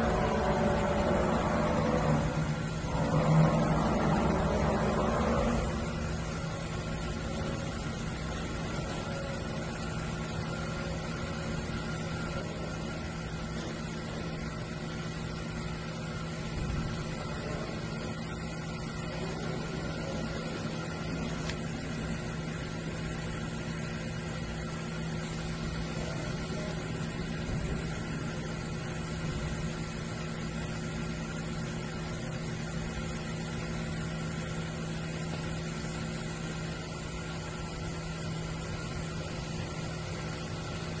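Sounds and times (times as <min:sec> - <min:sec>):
cnc machine humming: 0:00.0 - 0:41.0.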